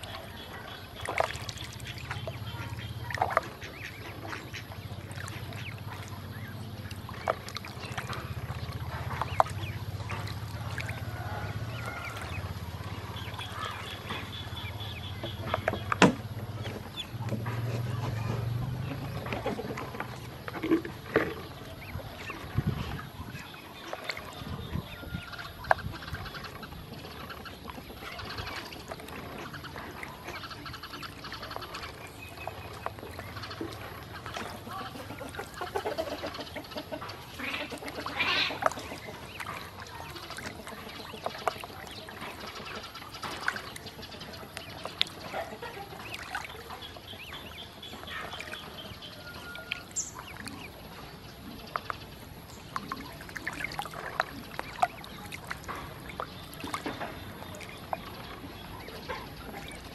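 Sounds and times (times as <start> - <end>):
ducklings peeping: 0.0 - 59.9
water splashing: 0.0 - 59.9.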